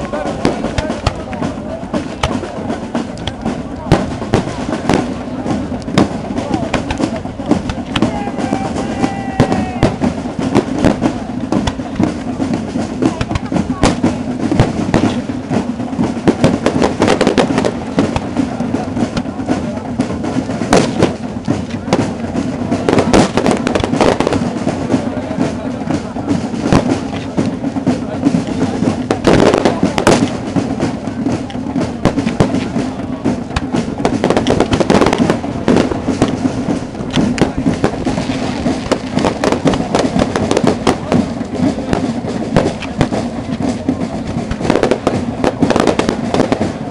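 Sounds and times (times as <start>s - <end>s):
firework bangs and crackles: 0.0s - 46.9s.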